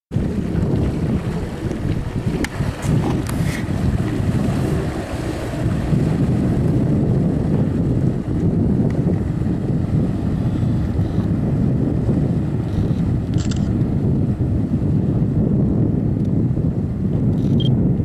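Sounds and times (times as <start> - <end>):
water rushing past hull: 0.1 - 17.3
motorboat engine: 0.1 - 18.0
wind rumble on microphone: 0.1 - 18.0.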